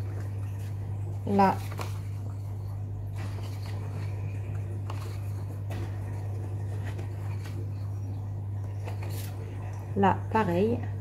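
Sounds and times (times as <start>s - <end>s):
paper sheets rustling: 0.0s - 9.8s
low hum: 0.0s - 11.0s.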